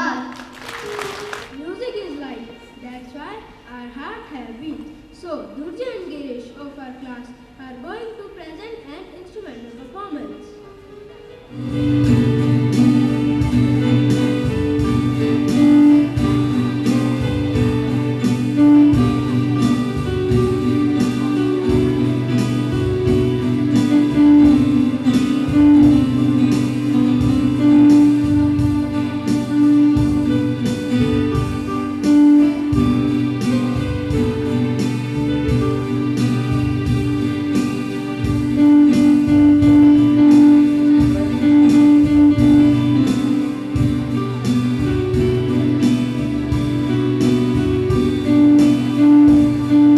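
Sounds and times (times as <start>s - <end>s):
instrumental music with beat: 0.3s - 2.8s, 10.8s - 49.9s.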